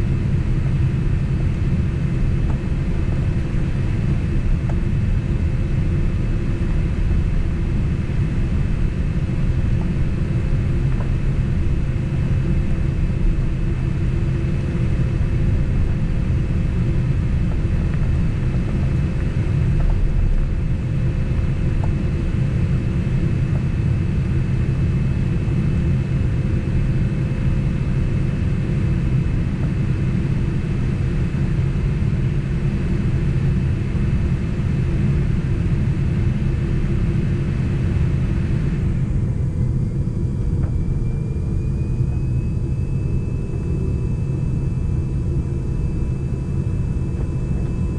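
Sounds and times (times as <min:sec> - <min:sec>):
faint steady whine: 0:00.0 - 0:47.9
jet engine cabin rumble: 0:00.0 - 0:47.9.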